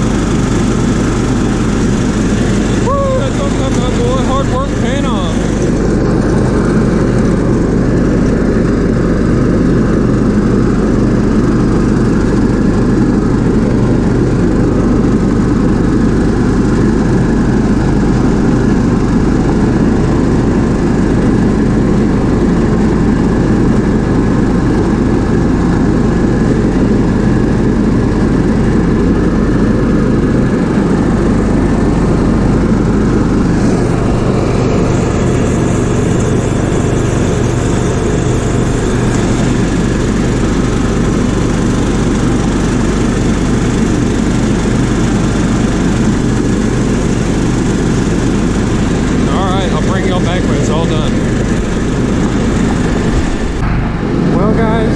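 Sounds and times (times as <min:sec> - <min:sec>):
riding mower engine mowing grass: 0:00.0 - 0:54.9.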